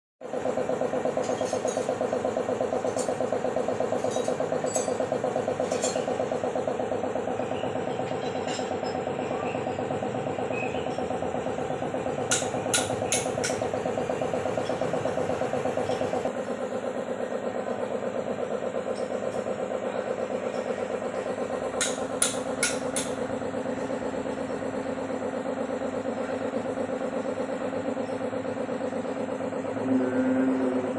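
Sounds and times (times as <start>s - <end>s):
excavator diesel engine running: 0.3s - 30.9s.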